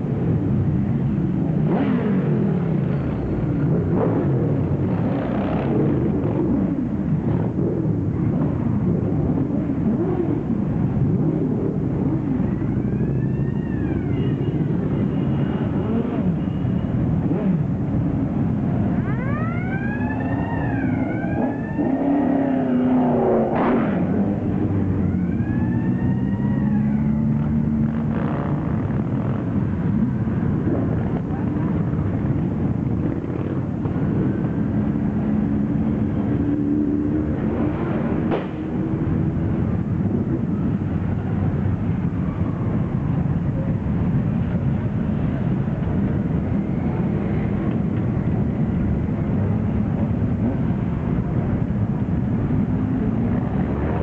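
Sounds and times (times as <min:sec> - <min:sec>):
motorcycle engines rumbling: 0:00.0 - 0:54.0
motorcycles revving: 0:00.0 - 0:54.0.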